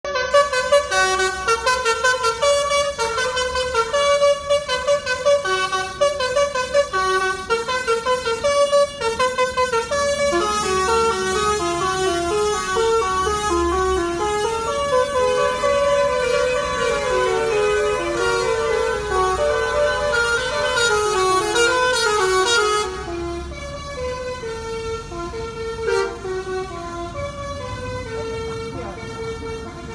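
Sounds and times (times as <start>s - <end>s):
musical air horns playing tune: 0.1s - 23.5s, 24.4s - 27.2s.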